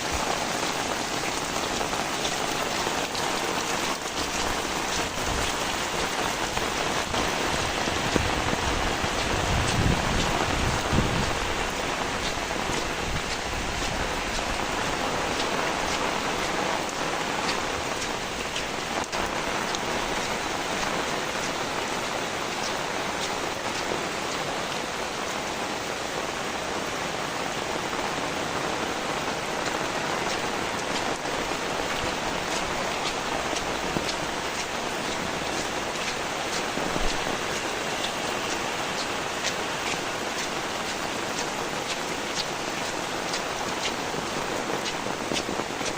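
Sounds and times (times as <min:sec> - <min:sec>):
sharp drips: 0:00.0 - 0:24.5, 0:29.2 - 0:45.9
heavy rain falling: 0:00.0 - 0:45.9.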